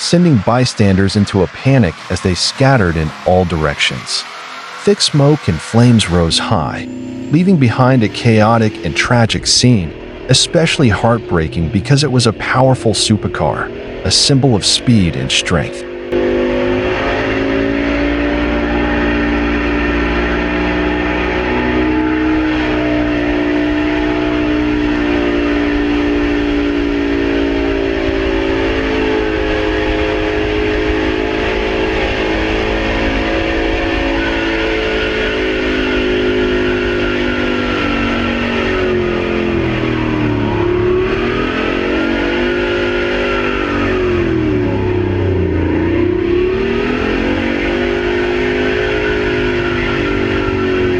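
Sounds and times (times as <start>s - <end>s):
engine running at high speed: 0.0s - 50.9s.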